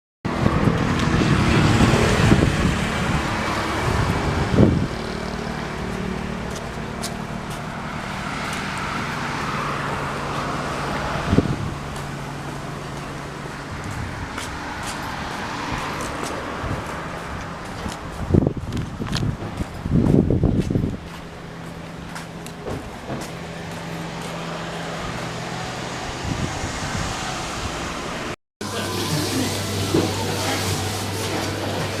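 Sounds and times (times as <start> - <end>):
road and wind noise: 0.2 - 32.0
car engine hum: 0.3 - 32.0.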